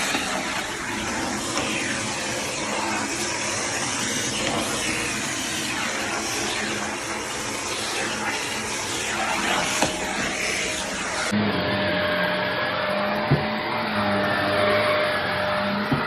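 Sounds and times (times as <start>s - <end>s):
vacuum cleaner on carpet: 0.0s - 16.0s.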